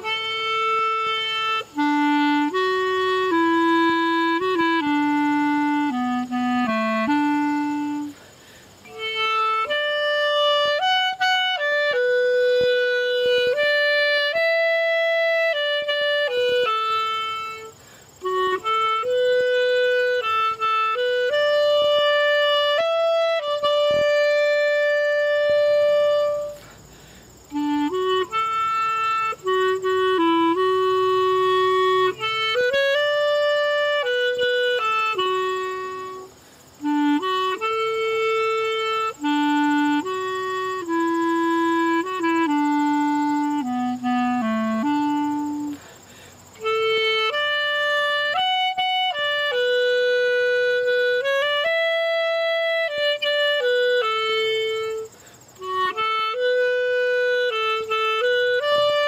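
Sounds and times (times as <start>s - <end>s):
solo clarinet playing hymn: 0.0s - 59.0s.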